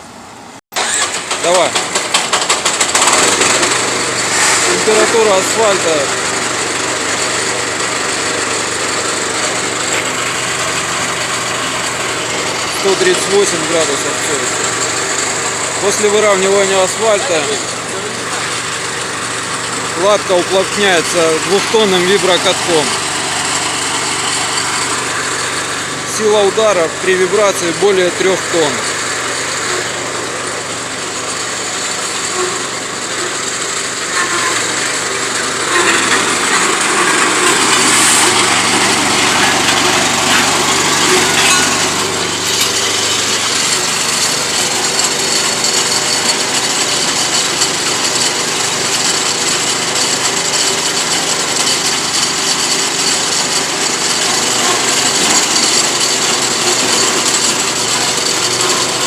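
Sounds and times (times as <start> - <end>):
road roller vibrating rattle: 0.0 - 59.0
roller engine noise: 0.0 - 59.0.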